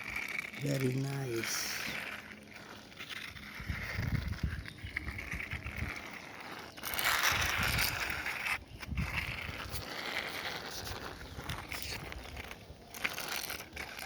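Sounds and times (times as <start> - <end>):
plastic toy car rattling: 0.0 - 14.0
rustling scrape: 0.0 - 14.0.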